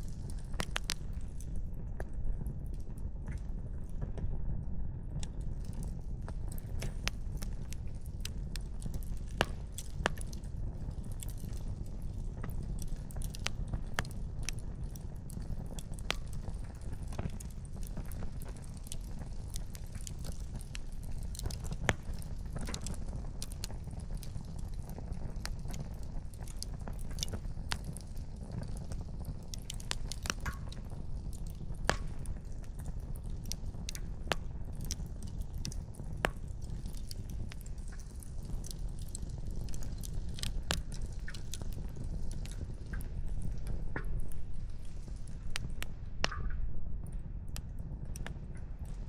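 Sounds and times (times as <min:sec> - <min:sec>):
campfire crackling and popping: 0:00.0 - 0:04.3, 0:05.0 - 0:49.0
low rumble of fire: 0:00.0 - 0:49.0.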